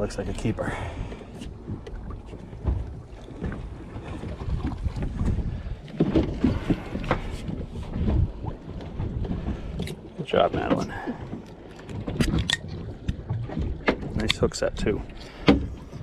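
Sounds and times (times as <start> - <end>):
wind buffeting microphone: 0.0 - 16.0
knocks and clicks of fishing gear: 1.0 - 14.5, 15.1 - 16.0.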